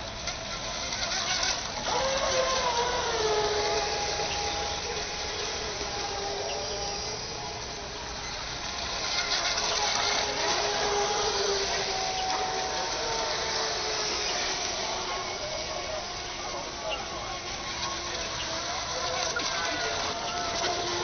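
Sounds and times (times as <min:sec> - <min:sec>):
rc boat motor whine: 0:00.0 - 0:21.0.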